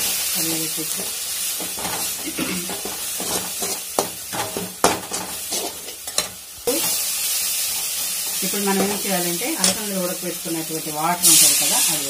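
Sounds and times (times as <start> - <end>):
masala sizzling in a metal pan: 0.0 - 12.0.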